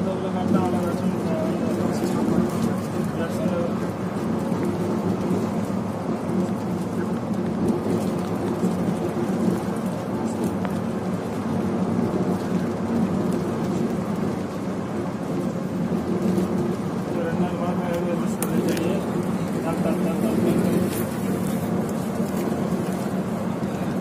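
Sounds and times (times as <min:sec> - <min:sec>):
diesel engine drone: 0:00.0 - 0:24.0
road and wind noise: 0:00.0 - 0:24.0.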